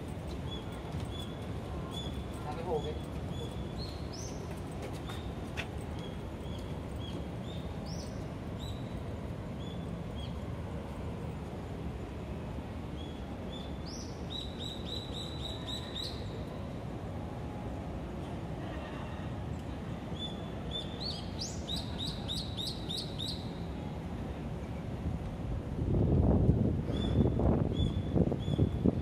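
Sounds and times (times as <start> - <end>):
city noise hum: 0.0 - 29.0.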